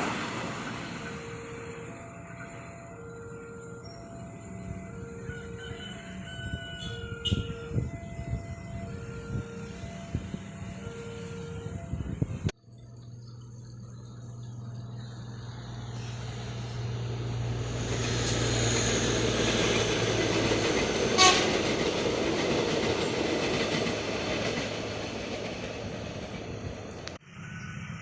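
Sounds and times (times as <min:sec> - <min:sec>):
train passing at speed: 0:00.0 - 0:12.5, 0:15.4 - 0:28.0.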